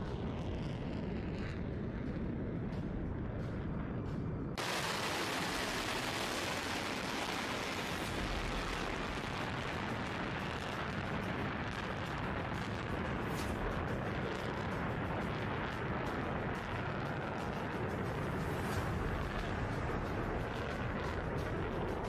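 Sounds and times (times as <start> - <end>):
crackle: 0.0 - 22.0.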